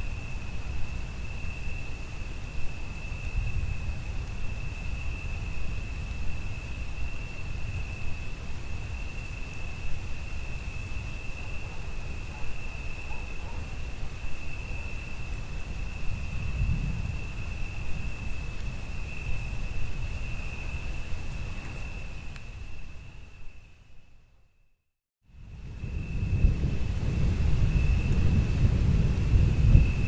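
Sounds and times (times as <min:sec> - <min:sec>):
faint rain hiss: 0:00.0 - 0:24.3, 0:25.3 - 0:30.0
crickets trilling: 0:00.0 - 0:24.4, 0:25.3 - 0:30.0.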